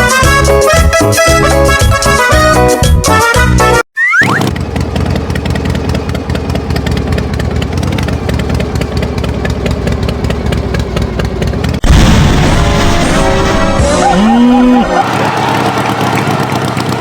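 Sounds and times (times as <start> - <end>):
cartoon tractor engine running: 0.0 - 17.0.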